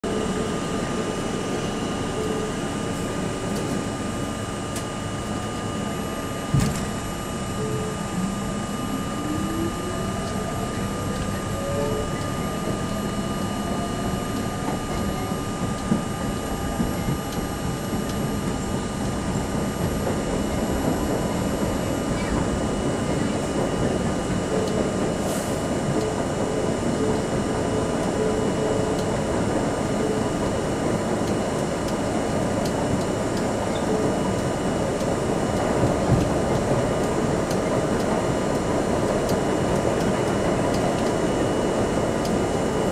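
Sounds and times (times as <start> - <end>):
train motor whine: 0.0 - 42.9
wheels rumbling on rail: 0.0 - 42.9.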